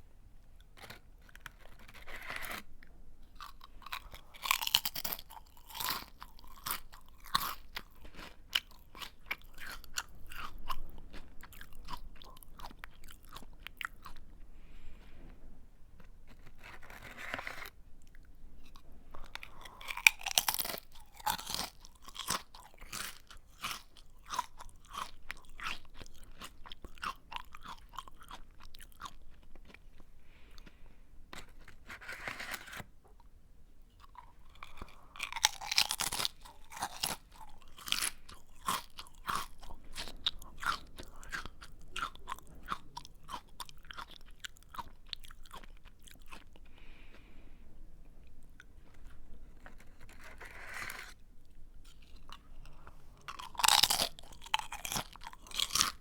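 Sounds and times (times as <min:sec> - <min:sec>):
person chewing crunchy snack: 0:00.6 - 0:15.1, 0:16.0 - 0:32.8, 0:33.9 - 0:47.4, 0:48.2 - 0:56.0.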